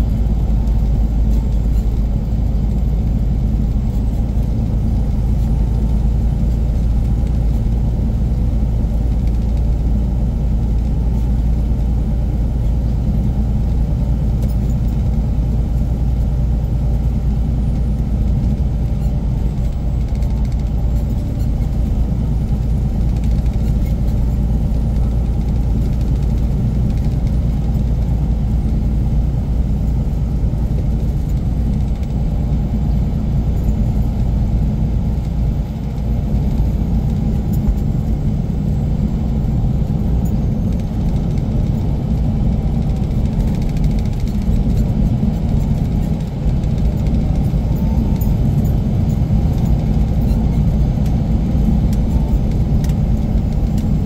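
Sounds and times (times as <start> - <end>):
diesel truck engine running: 0.0 - 54.0
low road rumble: 0.0 - 54.0.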